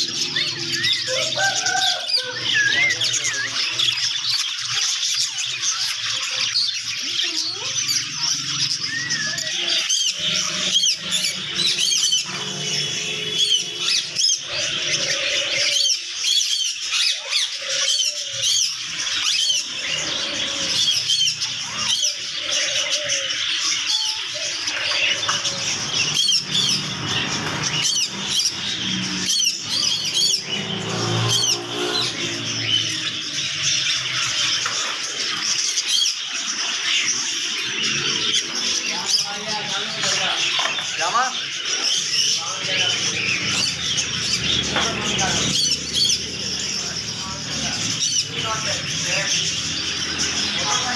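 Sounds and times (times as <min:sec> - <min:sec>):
parakeets chirping and squawking: 0:00.0 - 0:50.9.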